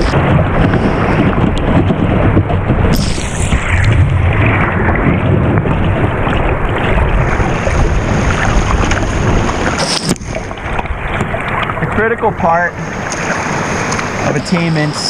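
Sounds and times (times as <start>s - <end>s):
wind noise on microphone: 0.0s - 14.6s.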